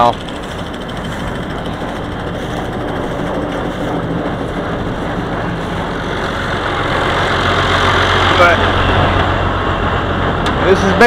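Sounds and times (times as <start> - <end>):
chopper shredding stalks: 0.0 - 11.0
tractor engine drone: 0.0 - 11.0.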